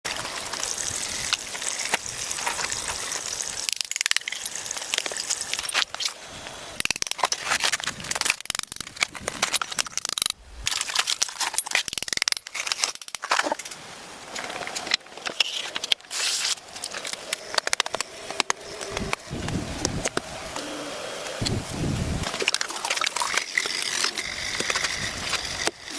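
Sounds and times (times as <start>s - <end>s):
hand tools clicking and scraping wood: 0.1s - 21.6s, 22.2s - 25.9s.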